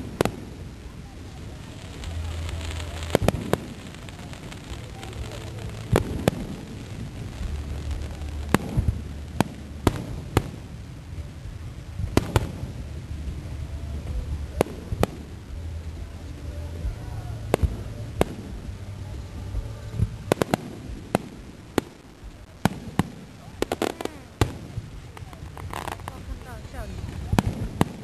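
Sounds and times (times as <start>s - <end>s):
firework bangs: 0.0s - 28.0s
steady low rumble: 0.0s - 28.0s.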